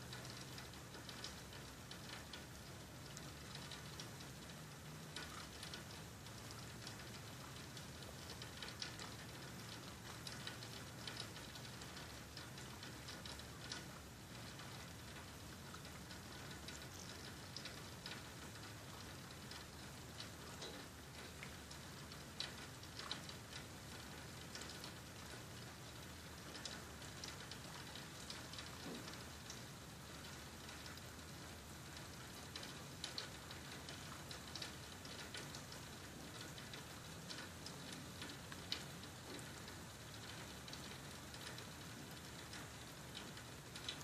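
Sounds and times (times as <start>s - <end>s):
faint rain pattering: 0.0s - 44.0s.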